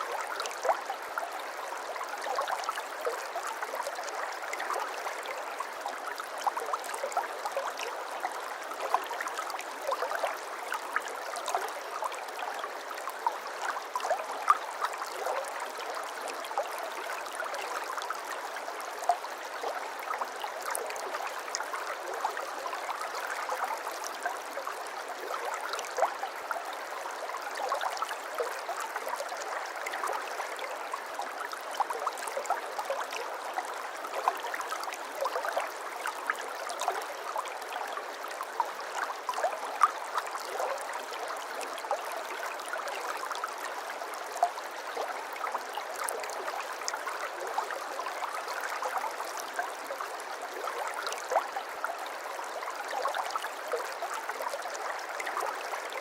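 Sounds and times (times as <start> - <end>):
shallow water babbling over stones: 0.0 - 56.0.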